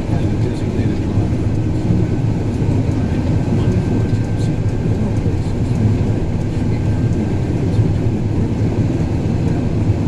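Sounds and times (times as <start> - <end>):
snowcat engine and tracks drone: 0.0 - 10.0.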